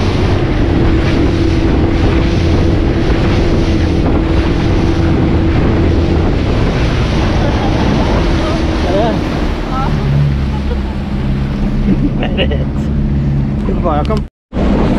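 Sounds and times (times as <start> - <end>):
outboard motor drone: 0.0 - 14.9
water rushing off hull: 0.0 - 14.9
wind buffeting microphone: 0.0 - 14.9.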